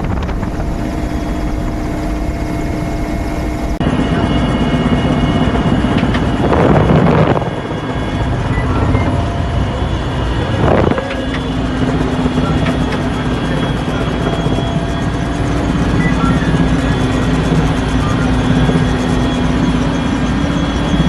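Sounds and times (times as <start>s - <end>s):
helicopter engine and rotor: 0.0s - 21.0s.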